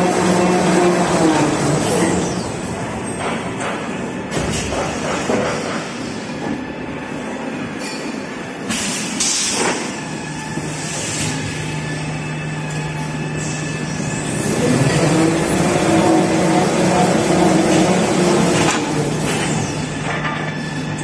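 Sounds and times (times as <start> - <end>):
clatter of rollers and conveyors: 0.0 - 6.6, 7.8 - 21.0.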